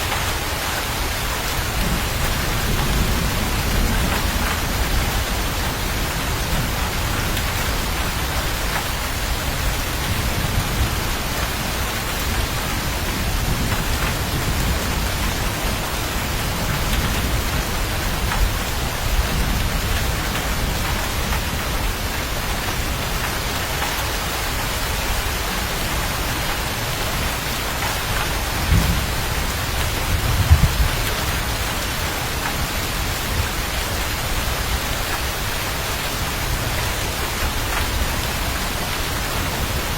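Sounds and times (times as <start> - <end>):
rain falling: 0.0 - 39.9
thunder rumbling: 0.2 - 35.5.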